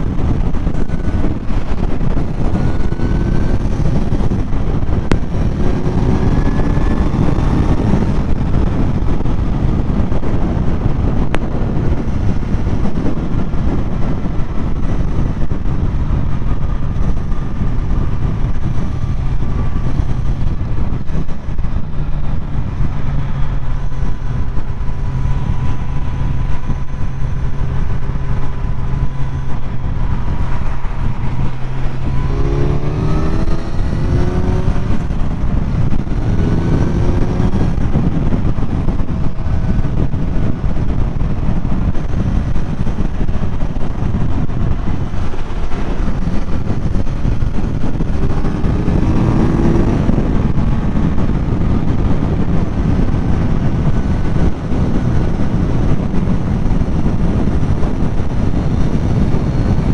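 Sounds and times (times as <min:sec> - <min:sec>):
motorcycle engine accelerating: 0:00.0 - 0:59.9
wind and tire noise at speed: 0:00.0 - 0:59.9
wind rushing: 0:00.0 - 0:59.9.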